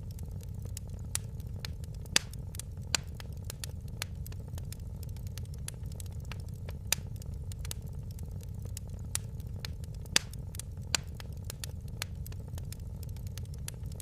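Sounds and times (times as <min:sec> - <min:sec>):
low rumble of flames: 0:00.0 - 0:14.0
wood fire pops and snaps: 0:00.0 - 0:14.0.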